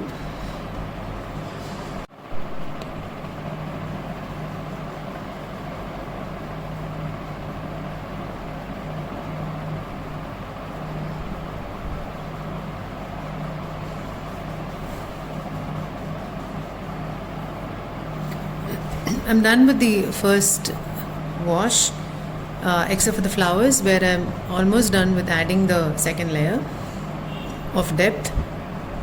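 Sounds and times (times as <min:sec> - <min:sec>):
low hum and hiss: 0:00.0 - 0:29.0.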